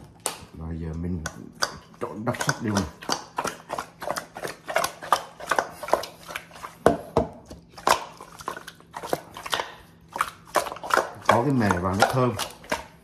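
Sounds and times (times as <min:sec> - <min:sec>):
meat slapping against metal bowl: 0:00.0 - 0:13.0.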